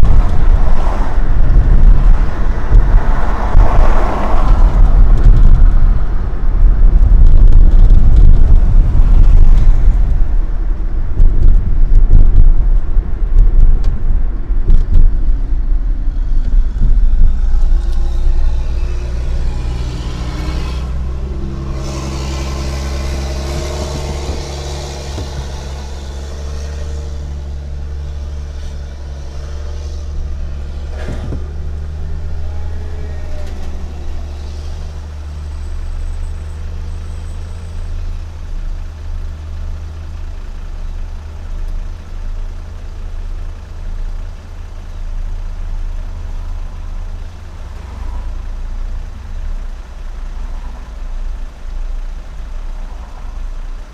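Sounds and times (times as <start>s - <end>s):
car engine and road rumble: 0.0s - 53.9s
passing traffic: 0.0s - 53.9s.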